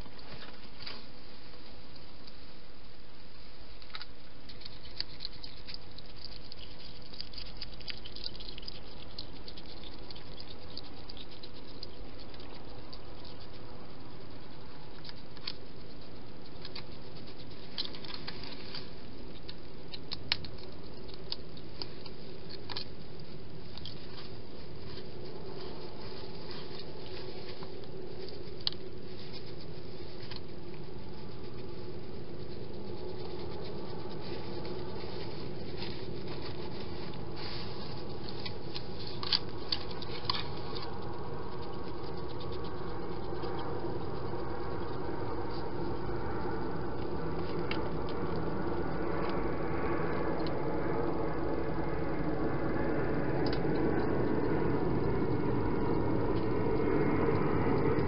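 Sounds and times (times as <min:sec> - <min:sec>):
camera hiss and faint hum: 0:00.0 - 0:58.0
hedgehog clicks and patters: 0:03.7 - 0:58.0.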